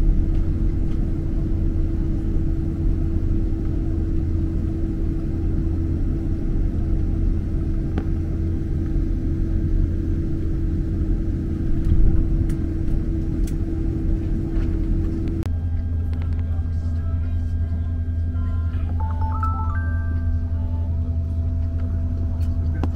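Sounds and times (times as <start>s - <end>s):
airplane cabin rumble: 0.0s - 22.9s.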